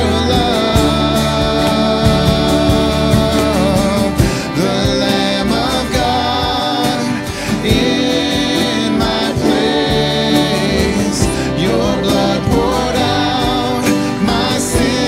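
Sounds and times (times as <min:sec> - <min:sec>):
acoustic guitar: 0:00.0 - 0:15.0
electric guitars: 0:00.0 - 0:15.0
keyboard: 0:00.0 - 0:15.0
voices singing: 0:00.0 - 0:15.0.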